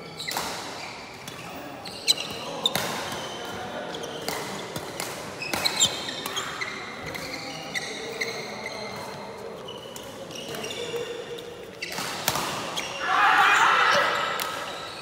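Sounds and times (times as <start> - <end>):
shoes squeaking on court floor: 0.0 - 13.0, 14.0 - 15.0.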